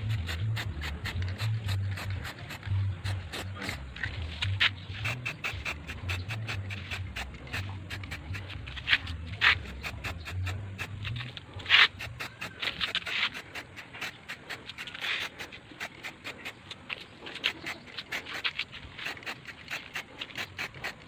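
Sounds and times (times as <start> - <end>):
fast even clicking: 0.0 - 21.0
spray paint can hissing: 0.0 - 21.0.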